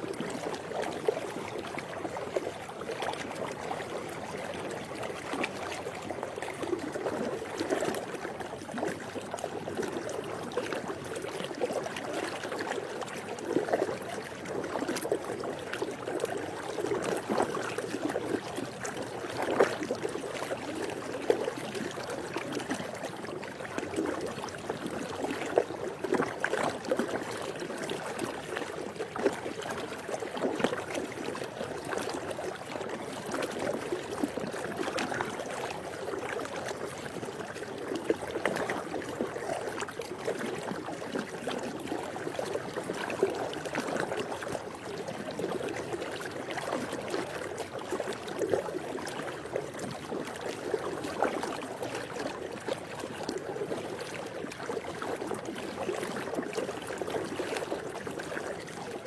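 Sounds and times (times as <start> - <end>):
pool water sloshing: 0.0 - 59.0.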